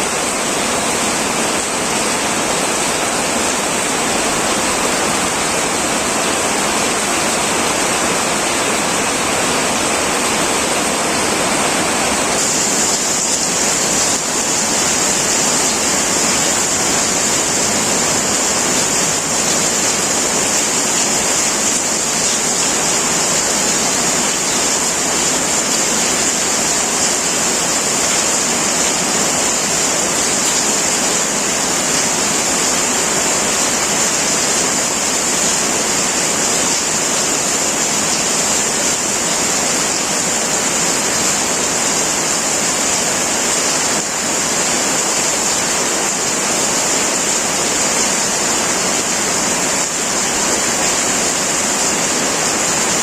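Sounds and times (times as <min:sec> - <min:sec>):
rain on a tin roof: 0:00.0 - 0:53.0.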